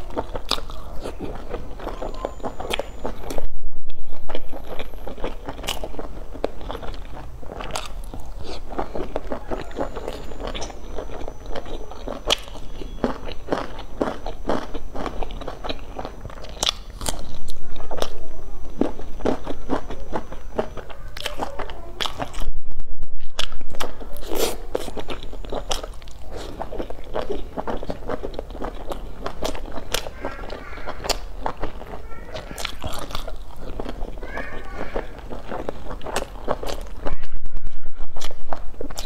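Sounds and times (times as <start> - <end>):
chewing with mouth clicks and crunches: 0.0 - 3.5, 4.2 - 22.5, 23.2 - 39.0.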